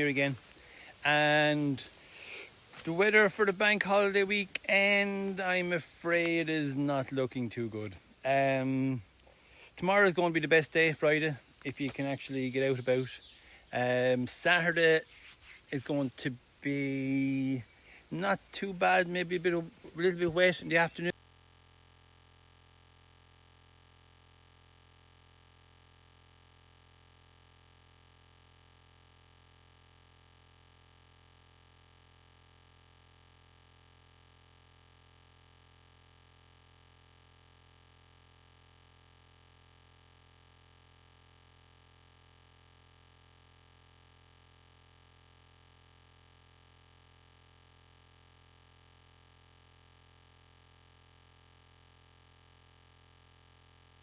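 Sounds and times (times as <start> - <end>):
faint low hum: 0.0 - 54.0.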